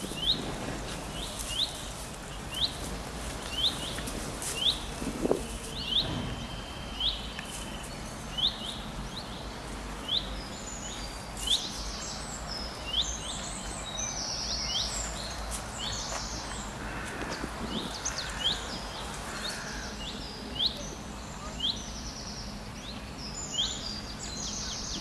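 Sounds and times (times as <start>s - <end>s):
background hiss: 0.0s - 25.0s
birds twittering: 0.0s - 25.0s
bird chirping: 1.1s - 25.0s.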